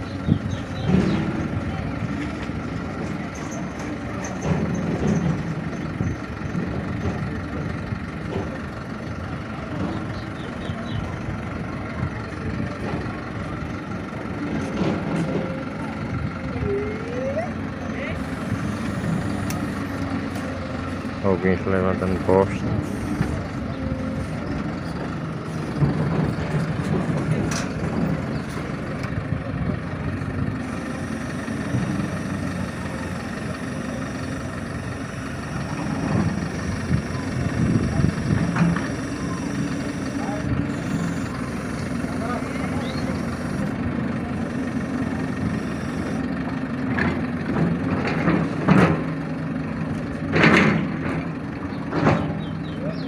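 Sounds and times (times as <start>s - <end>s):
heavy vehicle engine running: 0.0s - 53.0s.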